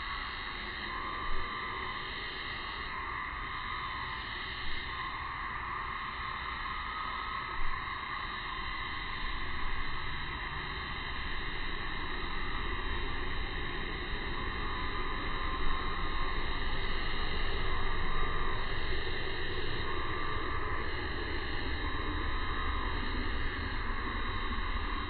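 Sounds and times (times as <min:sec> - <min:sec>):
outdoor ambient hiss: 0:00.0 - 0:25.0.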